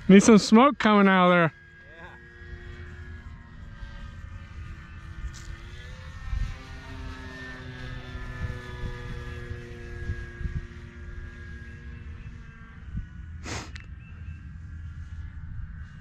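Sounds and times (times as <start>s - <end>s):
model plane motor whine: 0.0s - 16.0s.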